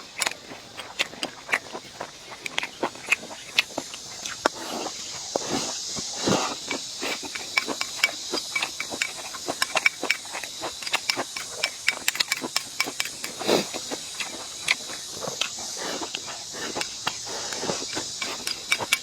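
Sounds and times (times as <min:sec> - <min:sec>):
chewing and mouth smacking: 0:00.0 - 0:19.0
steady high hiss: 0:03.2 - 0:19.0.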